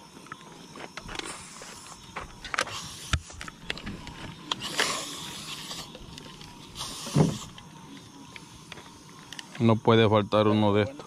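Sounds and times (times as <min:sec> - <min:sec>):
rustling hiss: 0:00.0 - 0:11.0.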